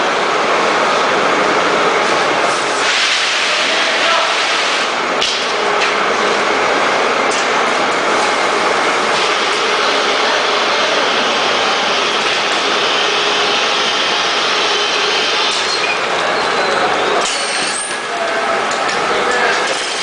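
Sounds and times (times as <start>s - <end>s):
packaging machinery running: 0.0s - 20.0s.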